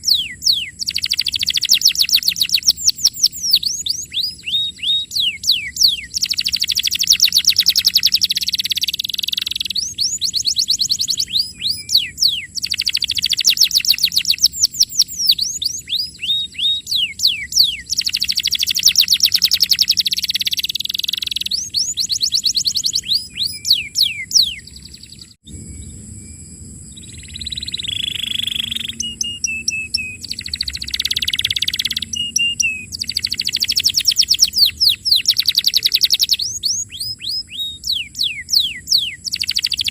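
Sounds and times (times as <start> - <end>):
canary singing trills: 0.0 - 26.0, 26.9 - 39.9.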